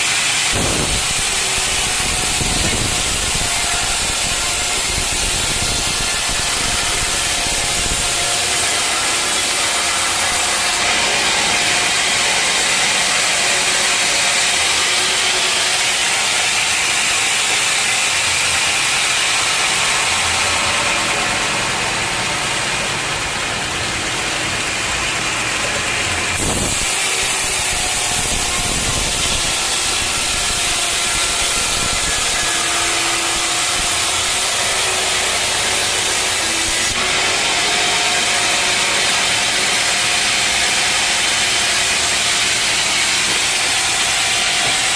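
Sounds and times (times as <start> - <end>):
sawmill saw cutting log: 0.0 - 44.9.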